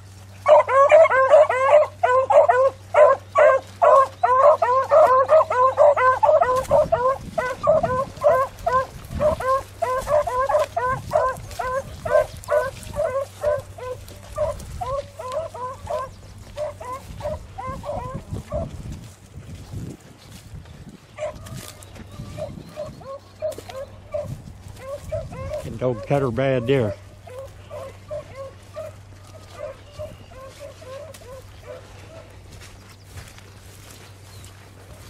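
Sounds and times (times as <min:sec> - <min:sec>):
beagles baying: 0:00.0 - 0:19.1, 0:21.1 - 0:35.0.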